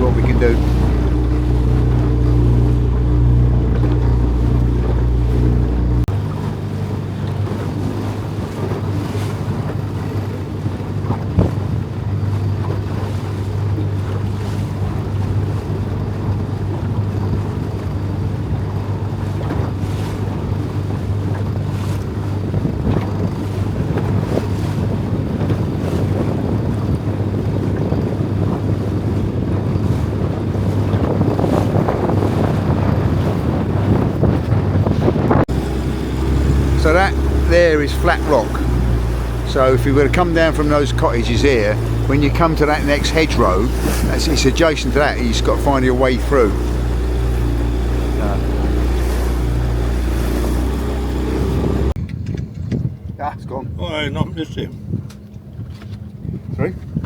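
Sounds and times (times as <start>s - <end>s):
boat engine running: 0.0s - 57.0s
water rushing past hull: 0.0s - 57.0s
wind buffeting microphone: 0.0s - 57.0s.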